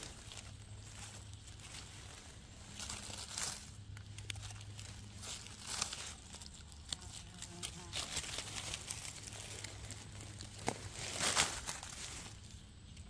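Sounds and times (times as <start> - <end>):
crinkling crunching noises: 0.0 - 13.0
hands rustling in dry leaves: 0.0 - 13.0.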